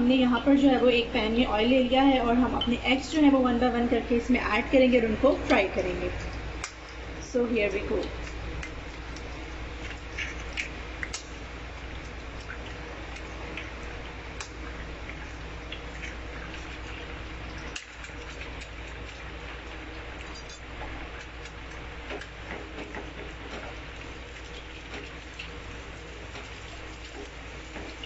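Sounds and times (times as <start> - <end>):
eggs sizzling in hot oil: 4.2 - 28.0.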